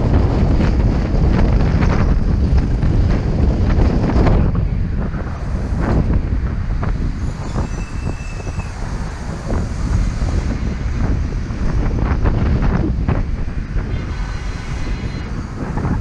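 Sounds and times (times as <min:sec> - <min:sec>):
car engine and tyres rumbling: 0:00.0 - 0:16.0
wind buffeting microphone: 0:00.0 - 0:16.0.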